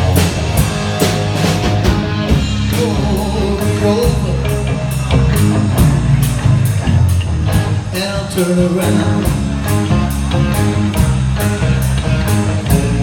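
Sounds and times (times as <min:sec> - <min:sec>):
drum kit beat: 0:00.0 - 0:13.0
guitar: 0:00.0 - 0:13.0.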